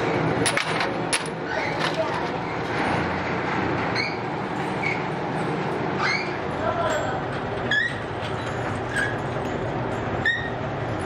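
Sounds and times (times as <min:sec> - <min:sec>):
workshop machinery hum: 0:00.0 - 0:11.0.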